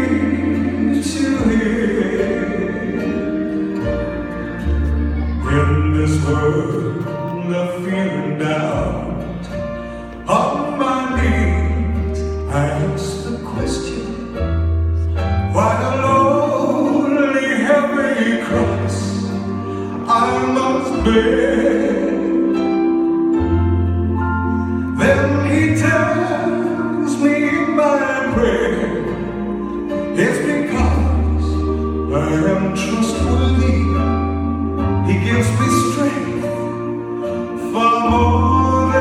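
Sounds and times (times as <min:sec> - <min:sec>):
man singing into a microphone: 0:00.0 - 0:03.9, 0:04.9 - 0:09.6, 0:10.2 - 0:14.4, 0:15.4 - 0:39.0
instrumental accompaniment: 0:00.0 - 0:39.0.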